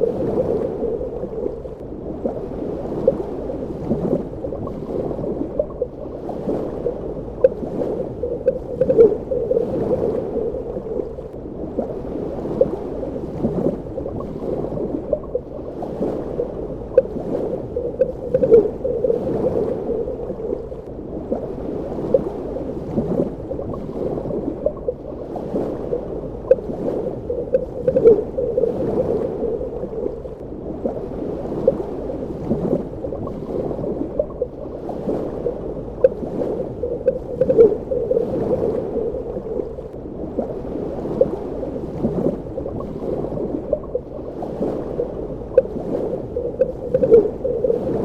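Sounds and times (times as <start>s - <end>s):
muffled underwater wash: 0.0s - 48.0s.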